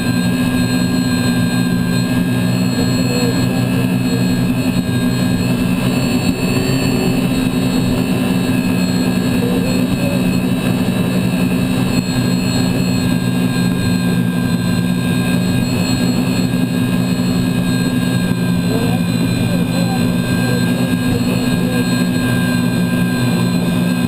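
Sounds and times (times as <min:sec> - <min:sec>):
turbine engine whining: 0:00.0 - 0:24.0.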